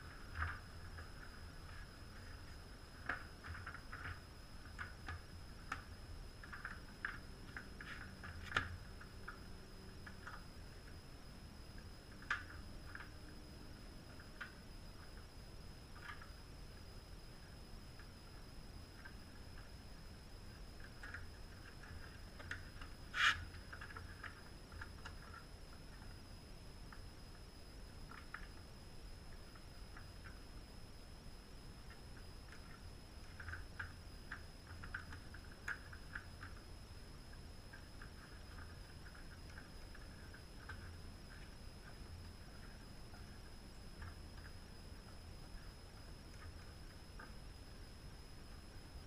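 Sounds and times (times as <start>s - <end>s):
faint high whine: 0.0s - 49.0s
faint high-pitched tone: 0.0s - 49.0s.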